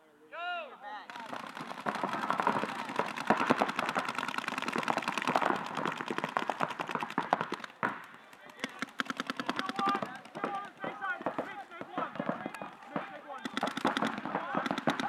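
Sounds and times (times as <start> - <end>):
paintball markers firing: 1.1 - 15.0.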